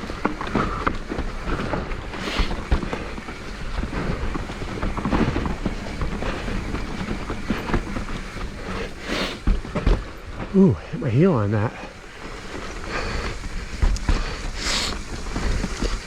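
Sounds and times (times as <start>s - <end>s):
bike clattering and rattling: 0.0s - 10.9s, 11.5s - 16.0s
tyre noise on dirt: 0.0s - 16.0s.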